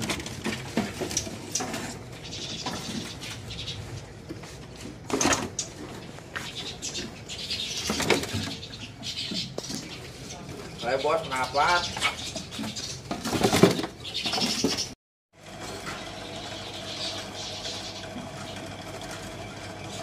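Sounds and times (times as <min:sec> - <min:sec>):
birds fluttering and tapping in cages: 0:00.0 - 0:20.0
songbirds chirping and twittering: 0:00.0 - 0:20.0.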